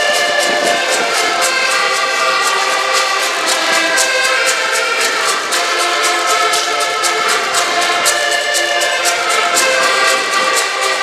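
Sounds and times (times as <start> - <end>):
button accordions playing a tune: 0.0 - 11.0
steady percussive clicking beat: 0.0 - 11.0.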